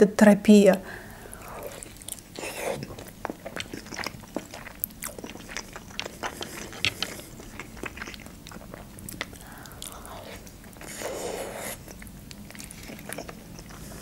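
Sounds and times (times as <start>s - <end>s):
chewing and mouth smacks: 1.2s - 14.0s.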